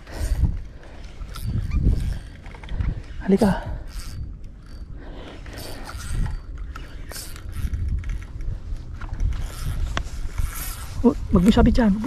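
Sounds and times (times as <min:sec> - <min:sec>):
fishing reel whirring and clicking: 0:00.0 - 0:11.8.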